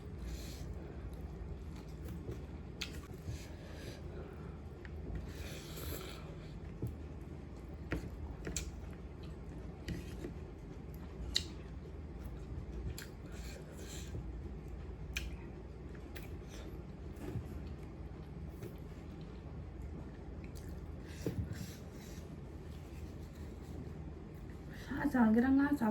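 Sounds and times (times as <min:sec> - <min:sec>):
person chewing food: 0:00.2 - 0:23.8.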